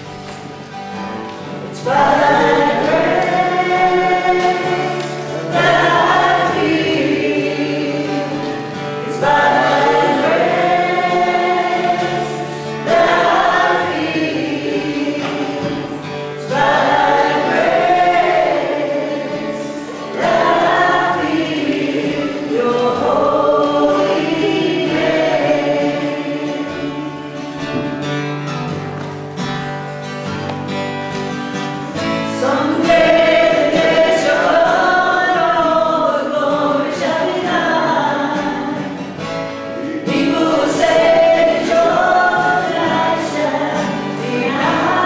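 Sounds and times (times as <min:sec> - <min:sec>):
soft guitar accompaniment: 0:00.0 - 0:45.0
women singing together: 0:01.6 - 0:28.0, 0:31.8 - 0:45.0.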